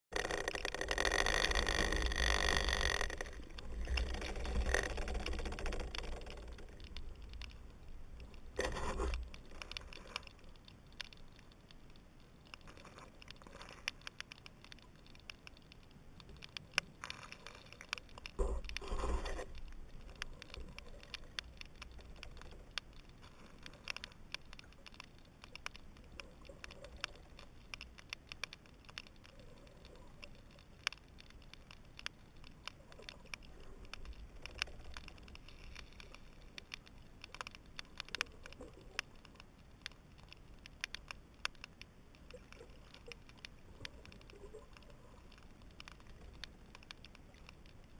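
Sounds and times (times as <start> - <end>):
underwater clicking crackle: 0.1 - 47.9.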